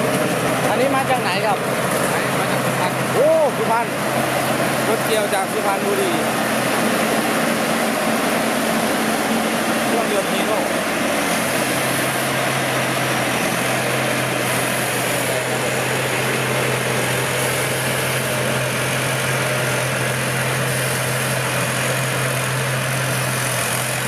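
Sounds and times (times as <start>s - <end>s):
combine harvester engine droning: 0.0s - 24.0s
machinery noise: 0.0s - 24.0s.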